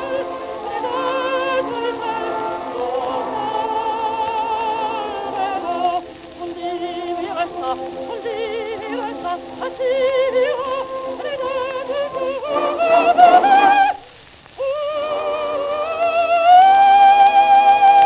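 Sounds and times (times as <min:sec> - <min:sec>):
record surface hiss: 0:00.0 - 0:18.0
woman singing on old record: 0:00.0 - 0:18.0.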